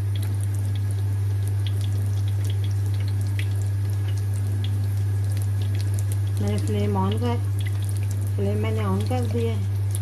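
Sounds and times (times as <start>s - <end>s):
steady low hum: 0.0s - 10.0s
sauce sizzling in a pan: 0.6s - 10.0s.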